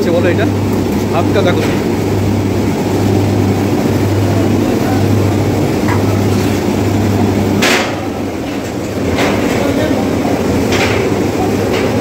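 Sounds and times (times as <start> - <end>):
constant hum: 0.0 - 12.0
kitchen equipment drone: 0.0 - 12.0.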